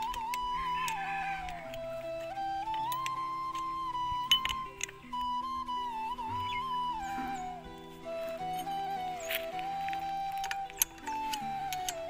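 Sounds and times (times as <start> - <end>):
melody of long held notes: 0.0 - 12.0.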